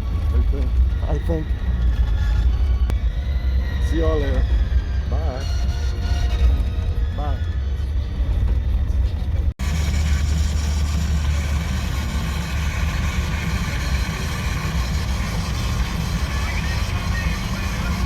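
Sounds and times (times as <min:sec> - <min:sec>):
bus engine rumble: 0:00.0 - 0:18.0
road noise: 0:00.0 - 0:18.0.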